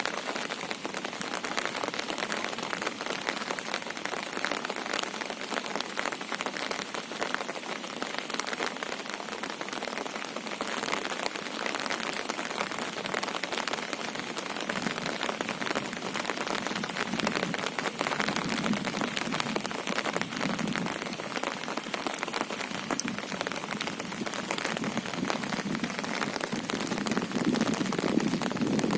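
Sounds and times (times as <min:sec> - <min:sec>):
steady rain patter: 0:00.0 - 0:28.9.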